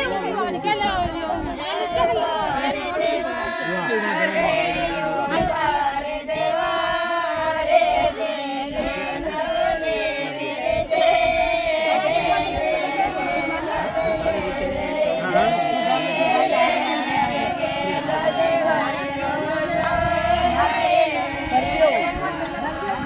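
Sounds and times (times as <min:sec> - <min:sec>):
women singing folk song: 0:00.0 - 0:23.0.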